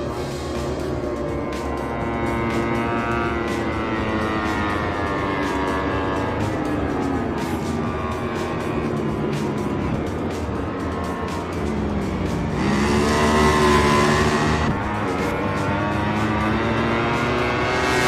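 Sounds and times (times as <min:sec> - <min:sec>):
racing motorcycle engines accelerating: 0:00.0 - 0:18.0.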